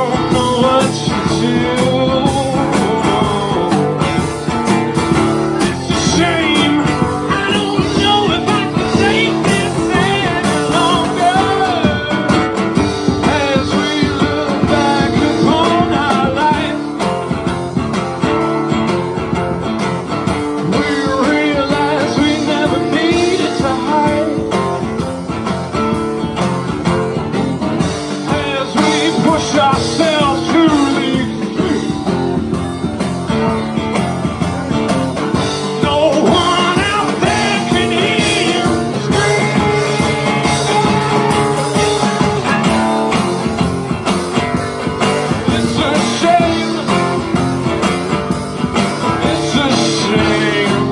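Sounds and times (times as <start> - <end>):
drum kit: 0.0 - 50.9
strummed acoustic guitar: 0.0 - 50.9.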